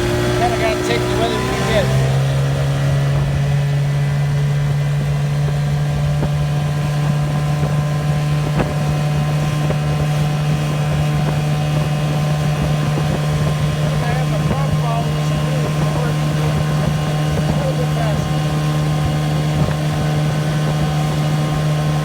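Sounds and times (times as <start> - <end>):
outboard motor running: 0.0 - 22.0
wind buffeting microphone: 0.0 - 22.0.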